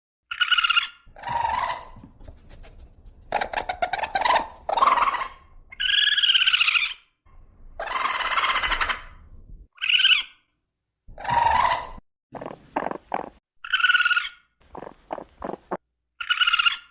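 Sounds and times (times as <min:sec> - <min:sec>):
raccoon calling: 0:00.3 - 0:02.4, 0:03.3 - 0:07.0, 0:07.8 - 0:09.2, 0:09.8 - 0:10.4, 0:11.1 - 0:16.9.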